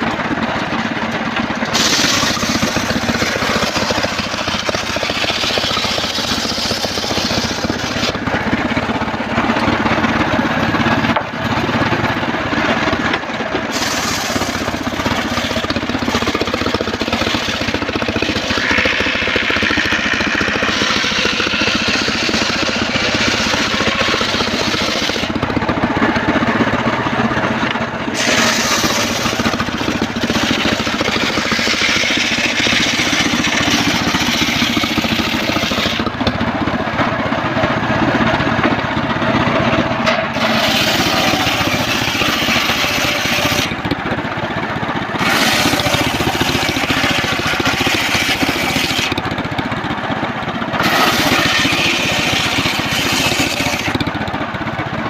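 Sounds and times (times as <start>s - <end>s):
saw blade cutting timber: 0.0s - 37.2s, 39.4s - 44.2s, 45.0s - 49.7s, 50.6s - 54.4s
sawmill engine running: 0.0s - 55.0s.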